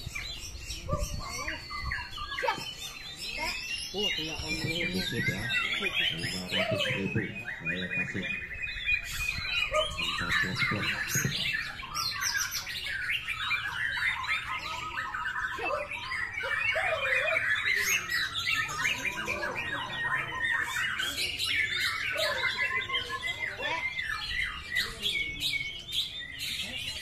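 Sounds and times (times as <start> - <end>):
birds singing in chorus: 0.0 - 27.0.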